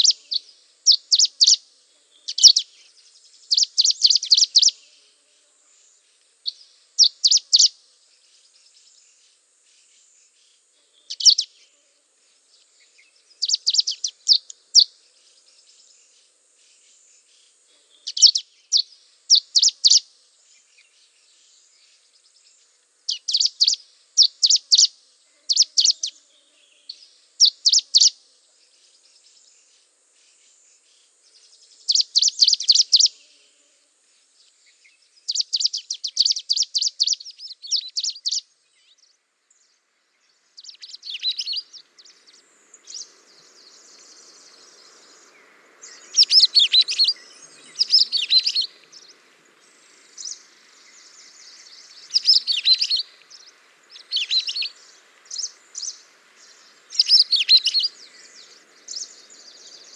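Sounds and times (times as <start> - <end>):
faint steady hiss: 0.0 - 59.9
songbirds chirping: 0.0 - 59.9.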